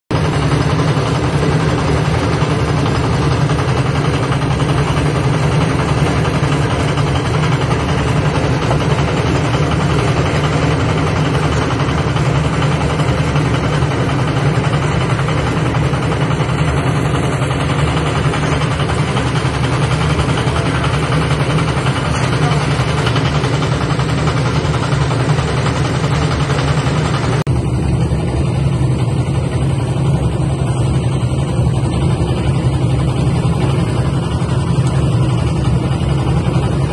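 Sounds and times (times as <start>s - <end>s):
engine running with deep hum: 0.1s - 36.9s.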